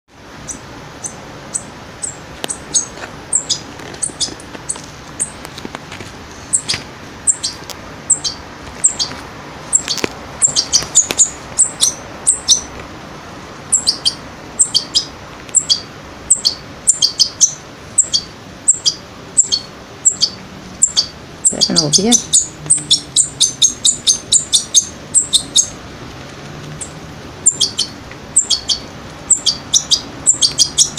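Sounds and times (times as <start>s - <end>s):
fledgling begging chirps: 0.3s - 5.4s, 6.3s - 12.8s, 13.6s - 25.9s, 26.8s - 30.9s.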